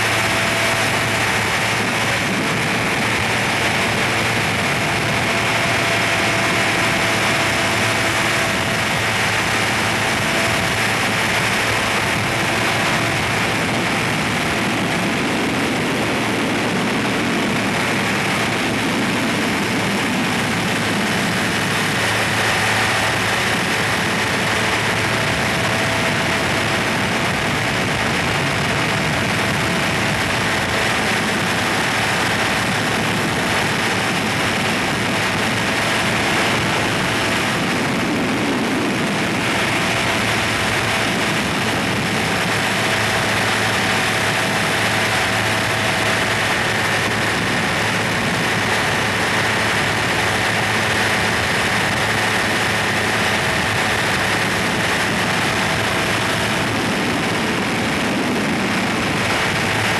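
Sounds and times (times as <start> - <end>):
aircraft engine and propeller: 0.0 - 59.9
rush of air: 0.0 - 59.9.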